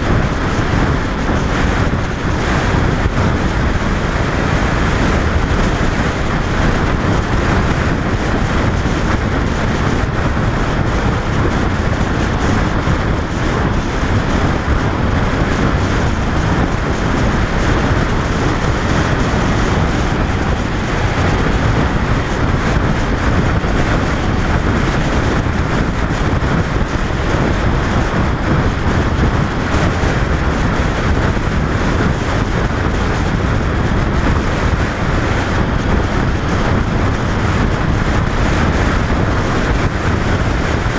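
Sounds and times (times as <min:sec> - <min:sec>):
motorcycle engine running: 0:00.0 - 0:40.9
road noise: 0:00.0 - 0:40.9
wind buffeting microphone: 0:00.0 - 0:40.9.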